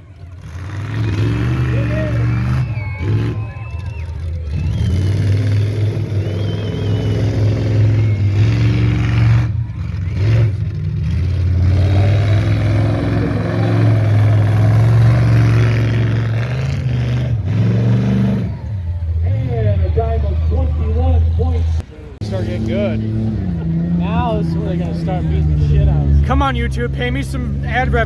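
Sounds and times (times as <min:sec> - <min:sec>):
truck engine revving hard: 0:00.0 - 0:28.0.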